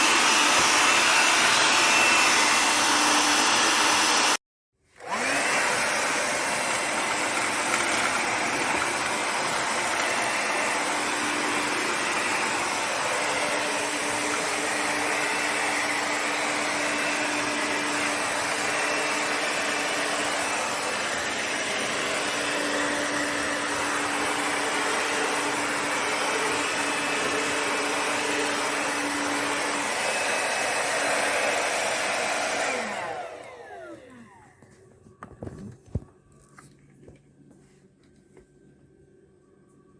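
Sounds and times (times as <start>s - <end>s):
handheld vacuum cleaner running: 0.0s - 34.7s.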